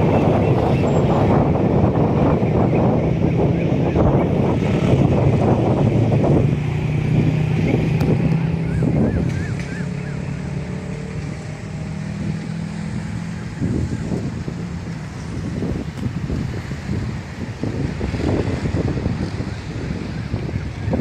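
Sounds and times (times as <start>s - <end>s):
engine humming: 0.0s - 21.0s
wind buffeting microphone: 0.0s - 21.0s.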